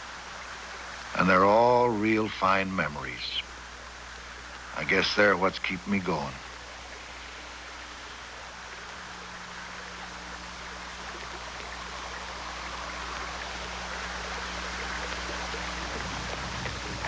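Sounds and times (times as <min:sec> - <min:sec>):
low steady hum: 0:00.0 - 0:17.0
rushing water: 0:00.0 - 0:17.0.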